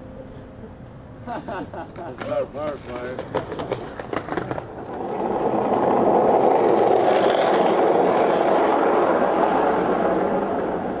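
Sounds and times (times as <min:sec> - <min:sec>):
skateboard wheels rolling on asphalt: 0:01.9 - 0:11.0.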